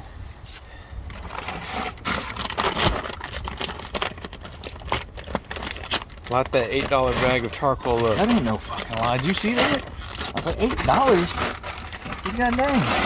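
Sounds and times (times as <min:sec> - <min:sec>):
paper bag crinkling: 0:01.1 - 0:13.0.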